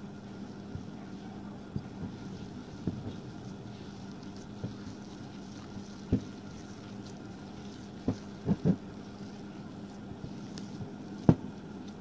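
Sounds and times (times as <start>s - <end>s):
hand kneading dough: 0.0s - 12.0s
steady low hum: 0.0s - 12.0s.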